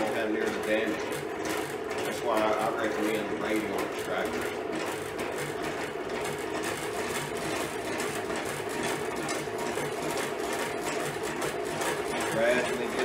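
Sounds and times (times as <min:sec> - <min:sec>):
honey extractor motor whirring: 0:00.0 - 0:13.0.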